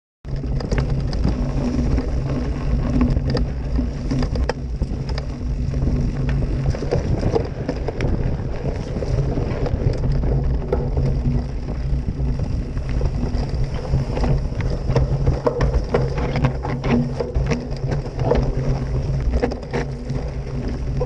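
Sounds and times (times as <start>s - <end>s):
wind rumble on microphone: 0.2s - 21.0s
bike clicks and rattles: 0.3s - 21.0s.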